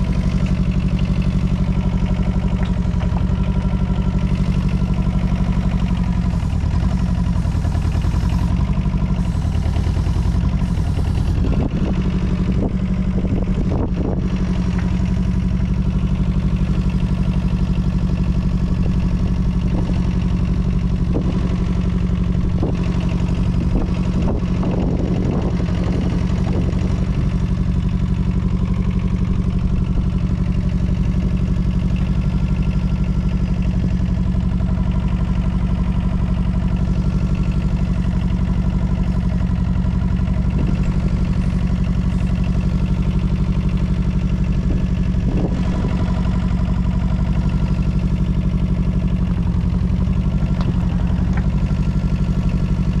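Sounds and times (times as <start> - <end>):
clatter: 0.0 - 53.0
diesel engine running: 0.0 - 53.0.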